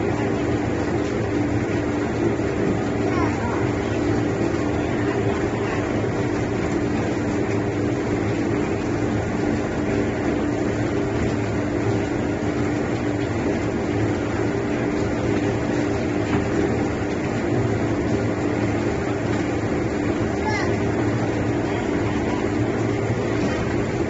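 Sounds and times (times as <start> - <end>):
plucking machine humming: 0.0 - 24.0.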